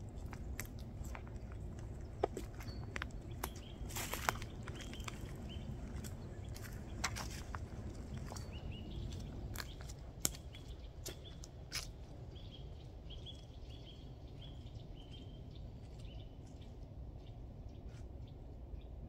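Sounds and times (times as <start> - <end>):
outdoor background noise: 0.0 - 19.0
songbird chirping: 0.2 - 19.0.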